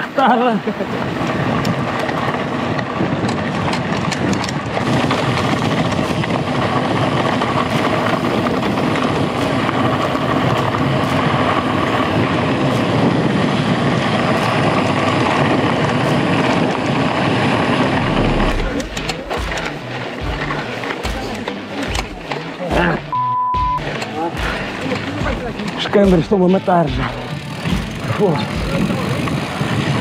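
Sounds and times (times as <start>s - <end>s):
bike tyres rolling on dirt: 0.0s - 23.1s, 23.8s - 30.0s.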